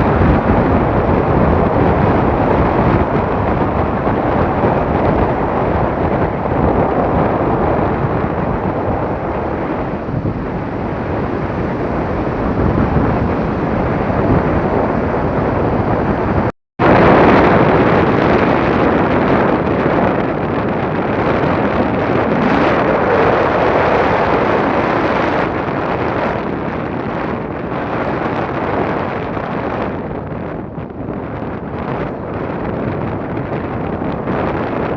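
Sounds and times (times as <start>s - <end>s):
wind rushing on microphone: 0.0s - 34.9s.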